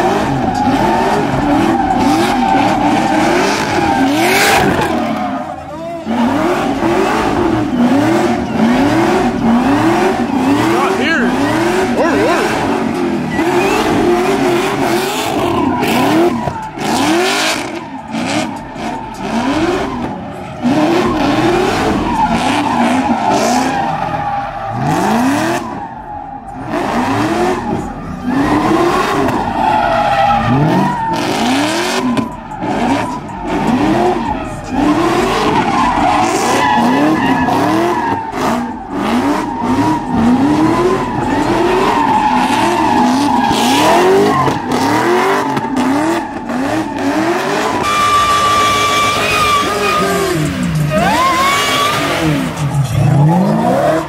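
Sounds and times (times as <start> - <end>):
tyres squealing: 0.0 - 25.9, 27.9 - 54.0
car engine revving: 0.0 - 54.0.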